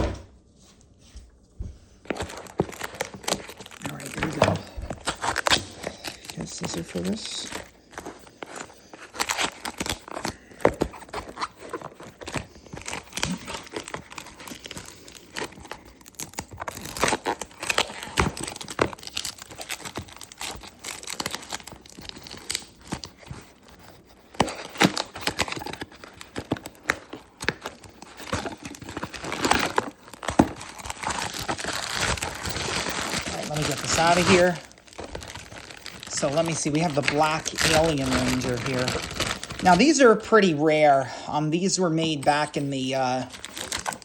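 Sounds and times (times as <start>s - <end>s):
wrapping crinkling and tearing: 2.0s - 40.4s, 41.6s - 44.0s.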